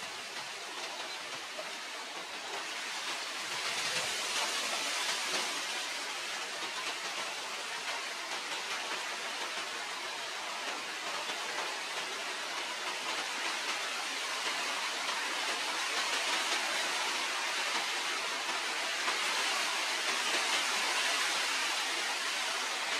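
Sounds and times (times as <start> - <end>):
steady background hiss: 0.0 - 22.9.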